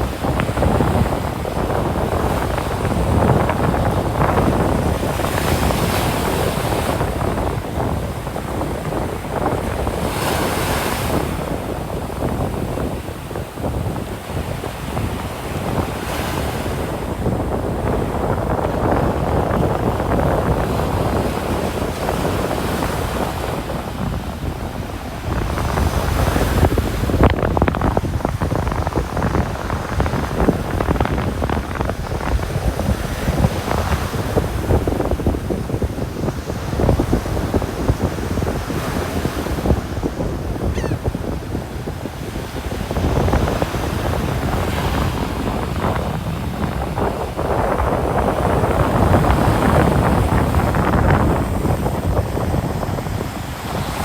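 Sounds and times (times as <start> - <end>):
waves breaking on a beach: 0.0 - 54.0
wind buffeting microphone: 0.0 - 54.0.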